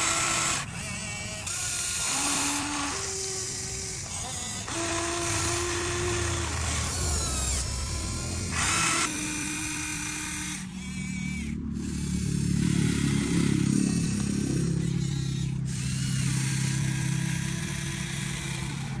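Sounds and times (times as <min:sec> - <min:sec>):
low loud drone: 0:00.0 - 0:19.0
small electric motors whining: 0:00.0 - 0:19.0.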